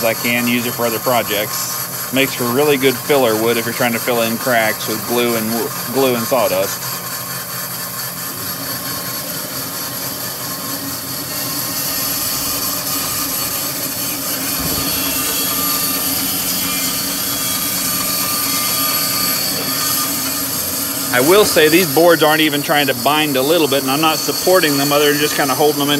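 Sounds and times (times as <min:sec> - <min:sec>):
bandsaw cutting wood log: 0:00.0 - 0:25.9
bandsaw running: 0:00.0 - 0:25.9
dust collector whirring: 0:00.0 - 0:25.9.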